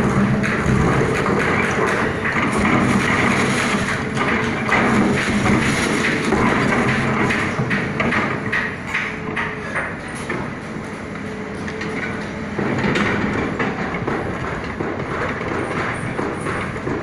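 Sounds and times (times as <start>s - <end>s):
excavator engine hum: 0.0s - 17.0s.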